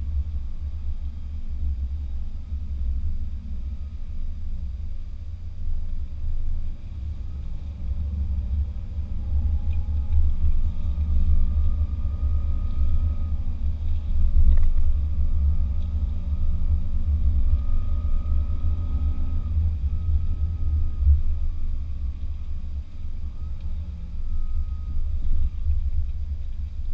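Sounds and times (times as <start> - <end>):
vehicle engine rumble in cabin: 0.0 - 26.9.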